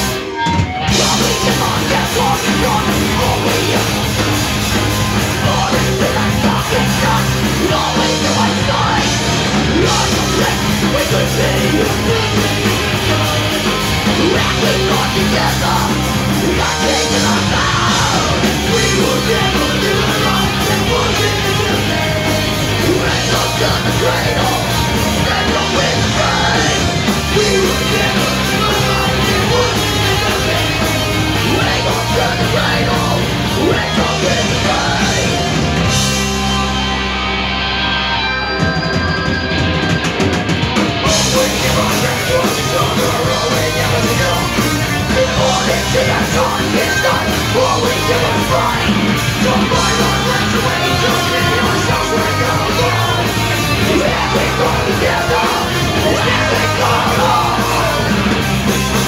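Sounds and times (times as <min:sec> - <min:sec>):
shouted vocals: 0:00.0 - 0:36.0, 0:41.0 - 0:59.0
punk rock band playing live: 0:00.0 - 0:59.0.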